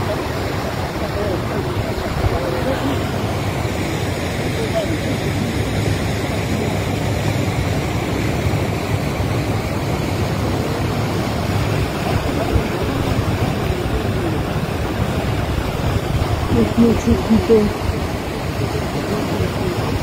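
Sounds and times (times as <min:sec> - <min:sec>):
river floodwater rushing: 0:00.0 - 0:20.0.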